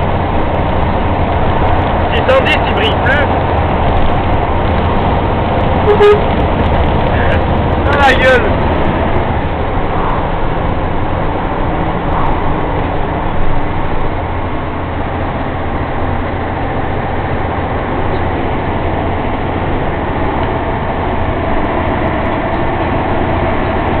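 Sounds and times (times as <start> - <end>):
truck diesel engine running: 0.0 - 24.0
tyre and road noise: 0.0 - 24.0.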